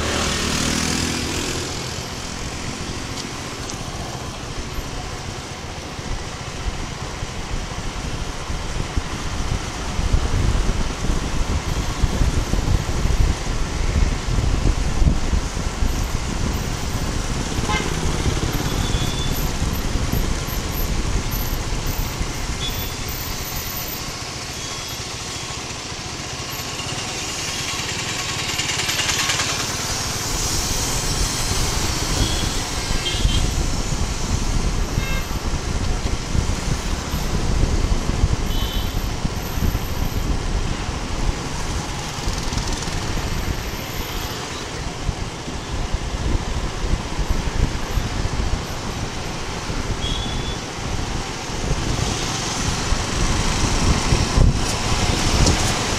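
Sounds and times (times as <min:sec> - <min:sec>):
wind rushing over microphone: 0:00.0 - 0:23.5, 0:29.8 - 0:55.9
town traffic: 0:00.0 - 0:55.9.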